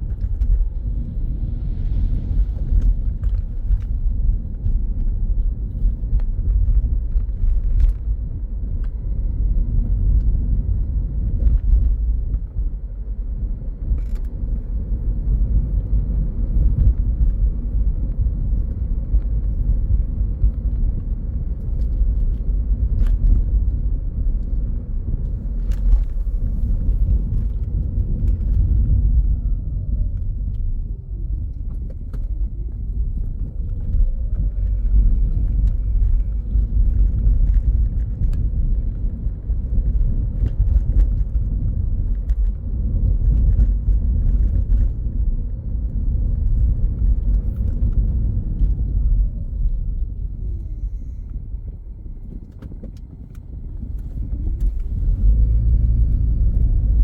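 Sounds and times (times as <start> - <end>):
low rumble: 0.0 - 57.0.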